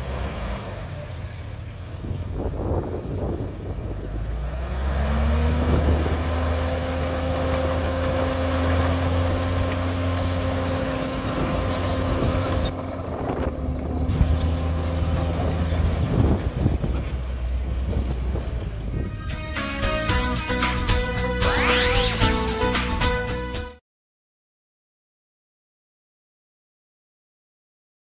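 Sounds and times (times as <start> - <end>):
bulldozer diesel engine droning: 0.0 - 23.7.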